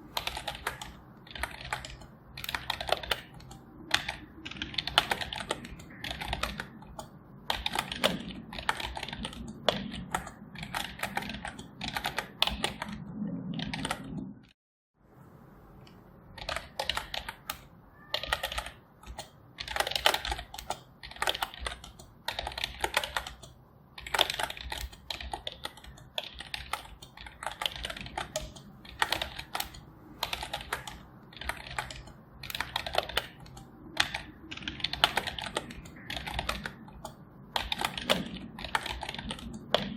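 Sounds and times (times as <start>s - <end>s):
typing on computer keyboard: 0.1s - 14.3s, 16.3s - 39.9s.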